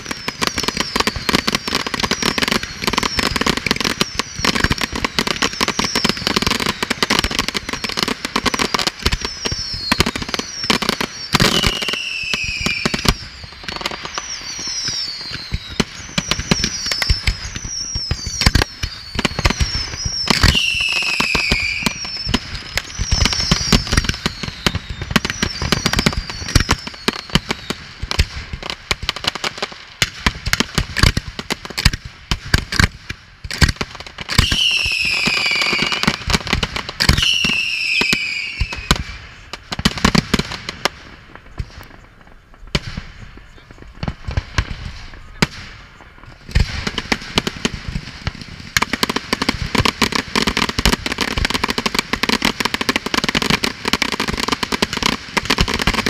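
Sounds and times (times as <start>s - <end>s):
falling firework whistles: 0.0s - 29.1s, 33.6s - 56.0s
firework bangs and crackling: 0.0s - 56.0s.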